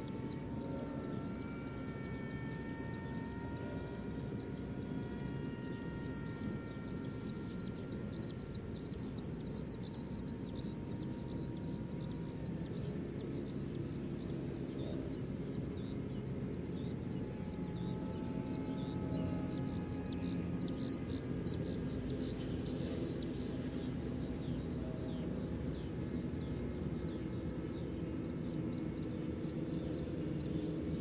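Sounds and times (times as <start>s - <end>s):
birds chirping: 0.0s - 31.0s
model plane motor whine: 0.0s - 31.0s.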